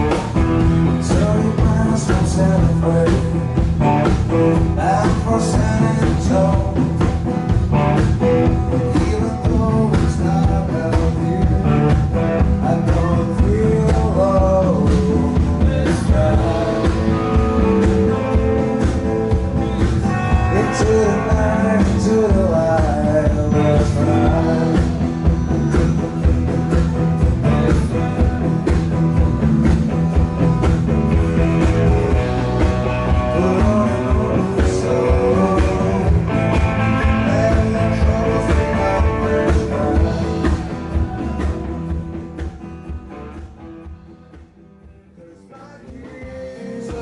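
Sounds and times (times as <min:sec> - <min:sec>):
bass guitar: 0:00.0 - 0:47.0
drum kit beat: 0:00.0 - 0:47.0.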